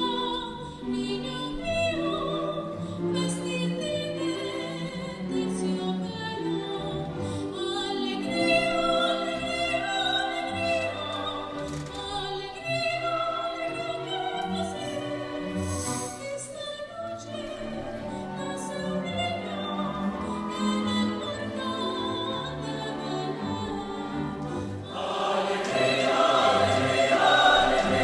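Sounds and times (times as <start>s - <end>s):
vocal ensemble singing classical music: 0.0s - 28.0s.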